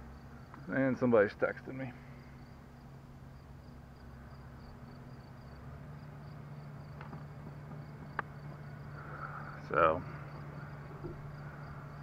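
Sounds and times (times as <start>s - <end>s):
distant tractor engine: 0.0s - 12.0s
insects chirping: 0.0s - 12.0s.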